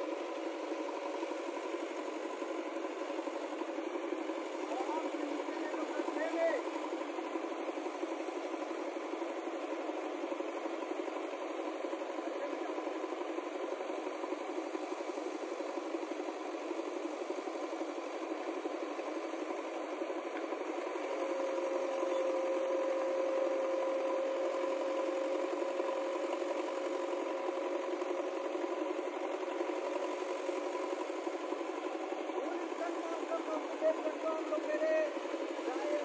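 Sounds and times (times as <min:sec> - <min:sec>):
steady hum: 0:00.0 - 0:36.0
vehicle engine running with rattle: 0:00.0 - 0:36.0.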